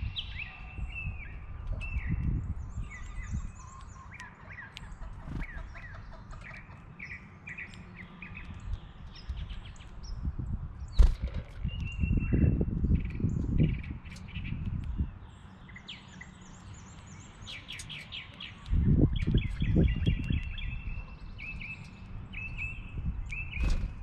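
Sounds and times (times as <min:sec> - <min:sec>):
songbirds chirping and singing: 0:00.0 - 0:24.0.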